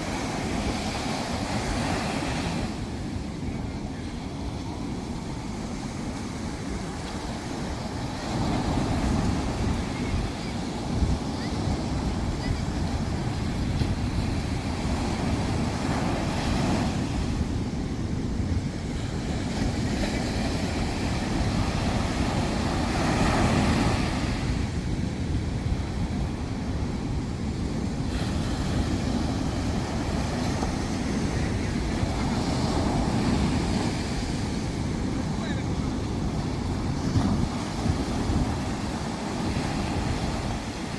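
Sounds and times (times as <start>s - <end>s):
waves breaking on a beach: 0.0s - 40.9s
wind rumble on microphone: 0.0s - 40.9s.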